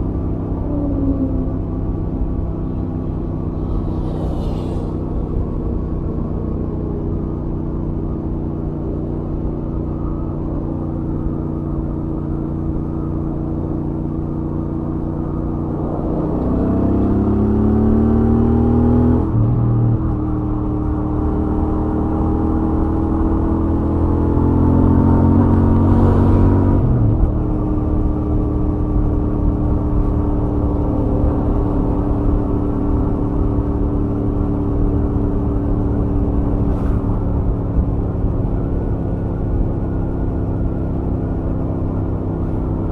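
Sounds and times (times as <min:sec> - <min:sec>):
wind noise: 0:00.0 - 0:07.8, 0:14.8 - 0:42.9
motorcycle engine cruising: 0:00.0 - 0:42.9
road noise: 0:00.0 - 0:42.9.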